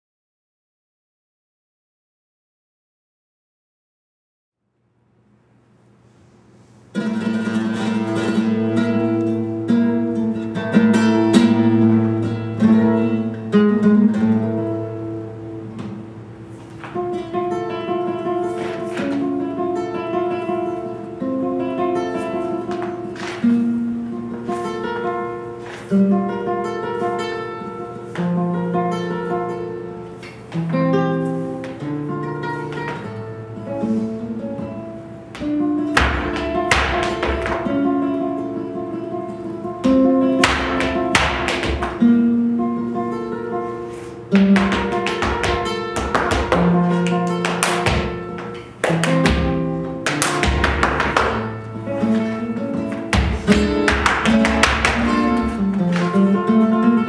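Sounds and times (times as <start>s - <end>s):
flamenco guitar playing: 6.7s - 57.0s.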